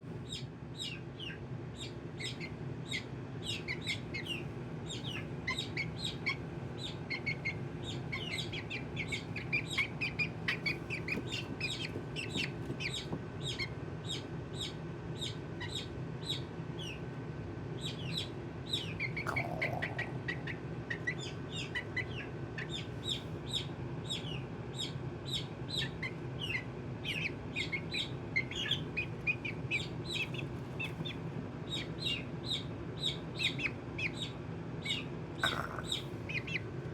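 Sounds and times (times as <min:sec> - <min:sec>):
chick peeping: 0:00.2 - 0:17.1, 0:17.8 - 0:36.8.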